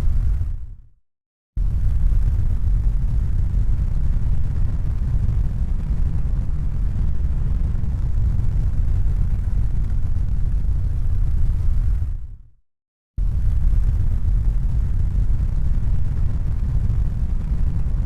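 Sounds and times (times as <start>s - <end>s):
deep rumbling noise: 1.6s - 12.1s, 13.2s - 18.0s.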